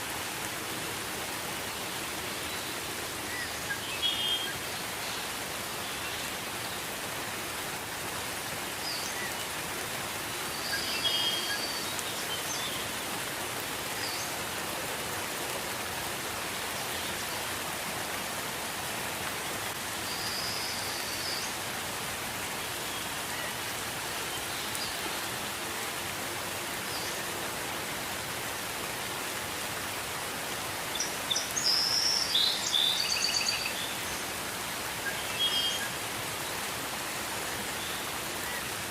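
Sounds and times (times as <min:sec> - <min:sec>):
gentle rain hiss: 0:00.0 - 0:38.9.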